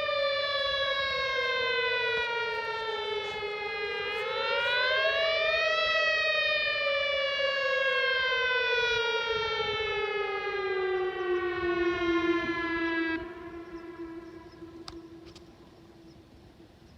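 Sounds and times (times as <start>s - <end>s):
tornado siren wailing: 0.0s - 16.7s.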